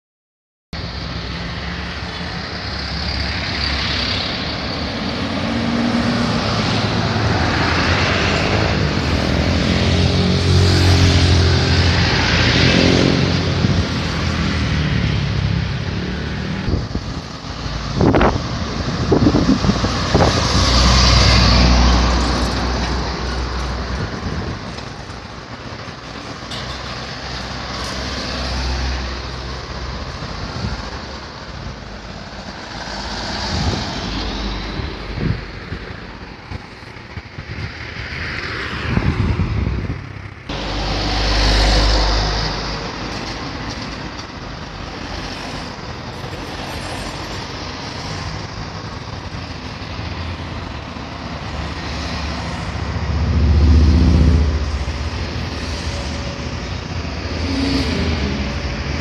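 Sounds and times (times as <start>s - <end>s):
vehicles passing close by: 0.8s - 59.0s.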